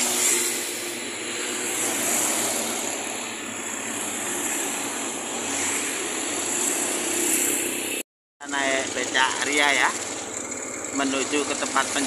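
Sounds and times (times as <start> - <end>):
vehicles going by: 0.0 - 12.0.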